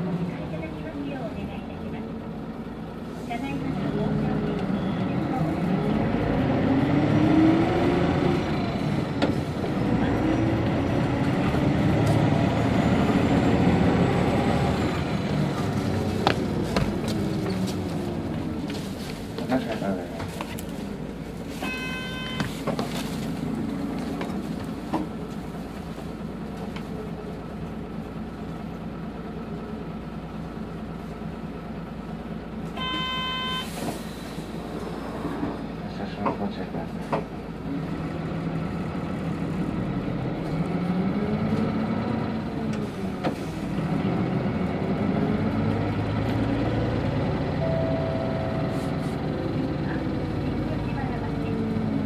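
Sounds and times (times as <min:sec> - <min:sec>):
bus engine and road noise: 0:00.0 - 0:52.0.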